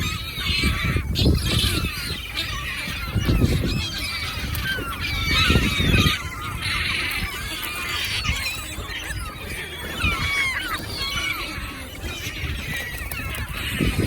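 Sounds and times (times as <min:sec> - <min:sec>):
flock of birds squawking: 0:00.0 - 0:14.0.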